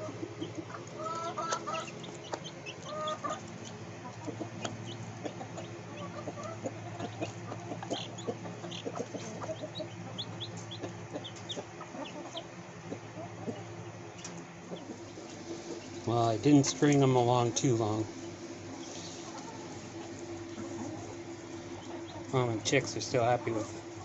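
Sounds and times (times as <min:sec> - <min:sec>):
chickens clucking: 0:00.0 - 0:24.0
chicks peeping: 0:00.0 - 0:24.0.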